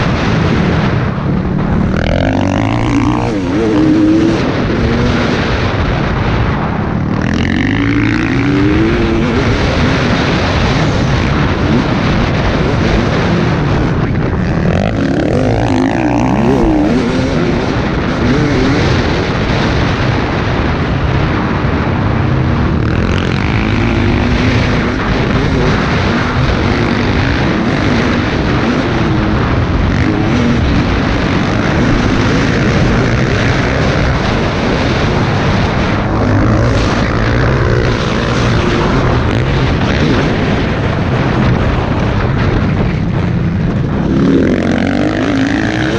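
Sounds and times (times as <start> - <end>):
dirt bike engine revving: 0.0 - 45.9
wind rushing over microphone: 0.0 - 45.9.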